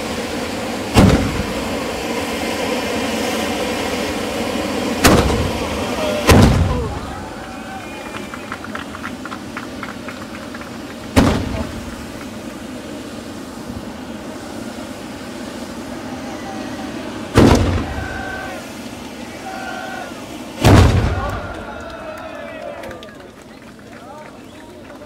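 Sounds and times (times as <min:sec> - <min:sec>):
steady noisy background: 0:00.0 - 0:25.0
firework bangs: 0:00.2 - 0:14.3, 0:16.8 - 0:23.0.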